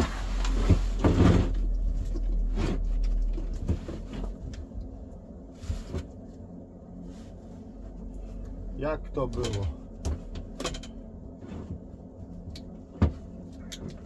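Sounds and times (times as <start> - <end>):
rustling of clothing and cables: 0.0 - 14.0.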